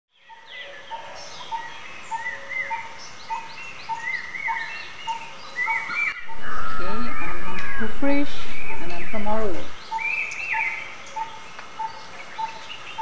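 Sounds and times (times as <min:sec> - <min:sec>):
birds chirping and whistling: 0:00.1 - 0:13.0.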